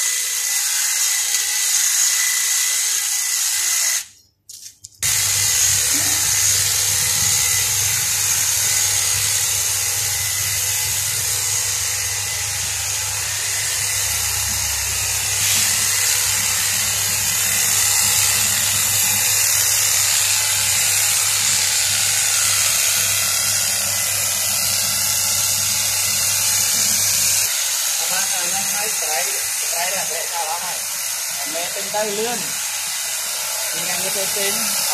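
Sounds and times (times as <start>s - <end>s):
electric hedge trimmer cutting: 0.0s - 4.1s, 5.0s - 34.9s.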